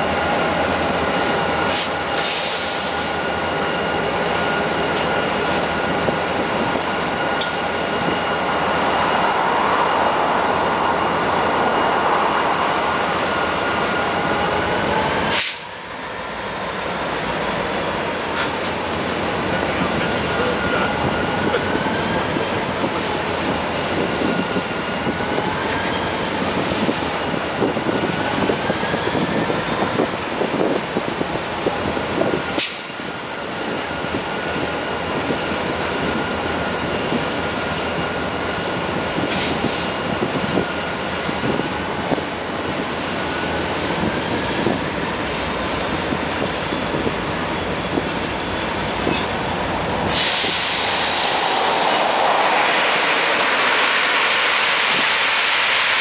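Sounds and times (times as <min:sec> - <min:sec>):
high wheel squeal: 0:00.0 - 0:56.0
rail cars rumbling and rattling: 0:00.0 - 0:56.0.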